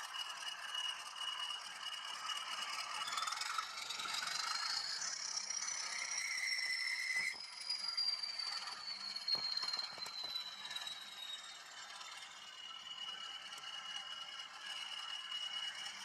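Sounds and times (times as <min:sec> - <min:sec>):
model locomotive engine whine: 0:00.0 - 0:16.0.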